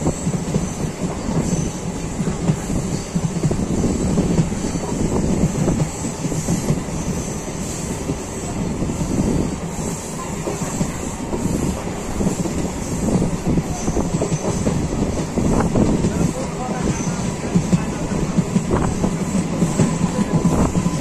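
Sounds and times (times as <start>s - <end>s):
track clatter: 0.0s - 21.0s
train wheels rumbling on rail: 0.0s - 21.0s.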